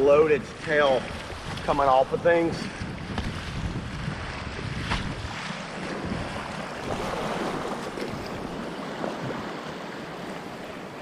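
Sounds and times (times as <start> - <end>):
water splashes: 0.0 - 11.0
wind rumble on microphone: 0.0 - 11.0.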